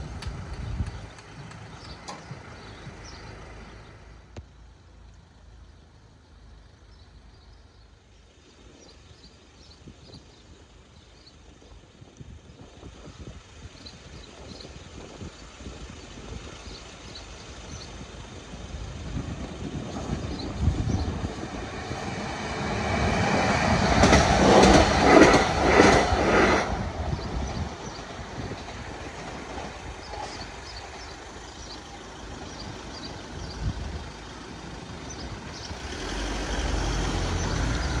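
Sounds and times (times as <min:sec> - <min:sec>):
train rumbling and wheels clattering: 0:00.0 - 0:04.4, 0:11.6 - 0:38.0
road vehicles: 0:00.0 - 0:38.0
truck engine rumble: 0:00.0 - 0:38.0.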